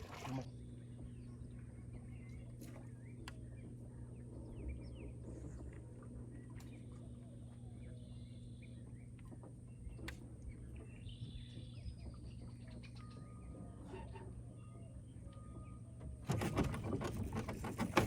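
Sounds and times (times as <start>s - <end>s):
steady low hum: 0.0s - 18.0s
birds chirping: 0.1s - 18.0s.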